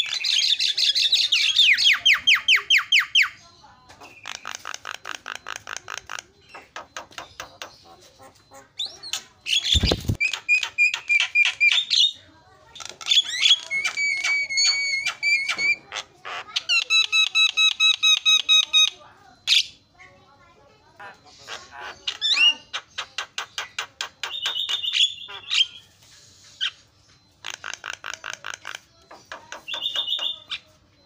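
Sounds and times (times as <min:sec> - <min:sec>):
myna bird singing: 0:00.0 - 0:31.0.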